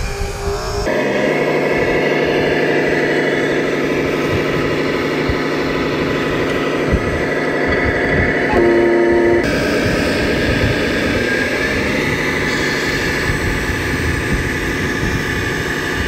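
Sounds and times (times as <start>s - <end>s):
engine-like drone of machinery: 0.0s - 16.0s
faint high whine: 0.0s - 16.0s.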